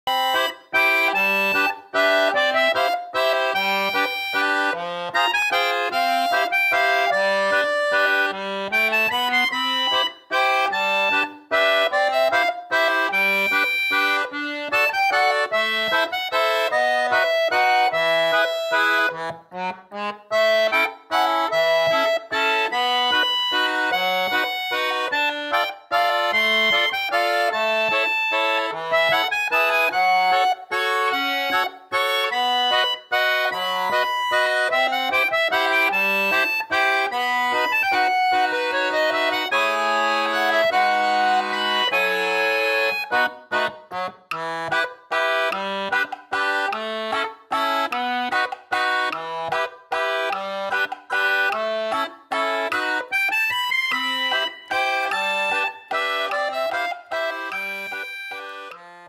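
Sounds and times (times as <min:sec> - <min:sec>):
accordion melody: 0:00.0 - 0:59.0
bass notes: 0:00.2 - 0:59.0.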